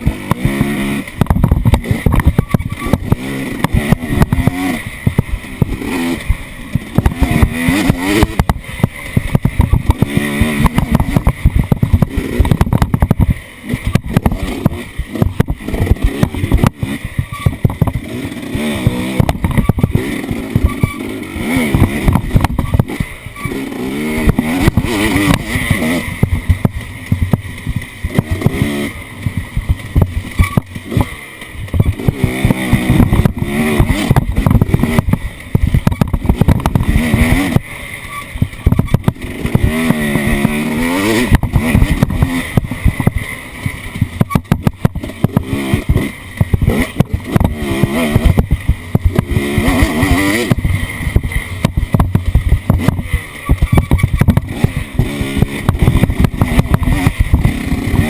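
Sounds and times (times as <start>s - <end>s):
knocks and rattles: 0.0s - 58.0s
off-road vehicle engine revving: 0.0s - 58.0s.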